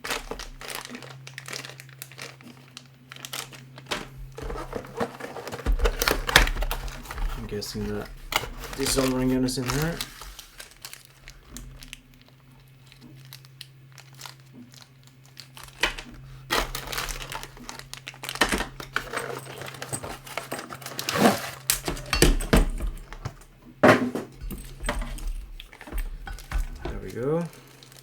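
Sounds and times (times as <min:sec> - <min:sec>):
packaging crinkling and rustling: 0:00.0 - 0:28.0.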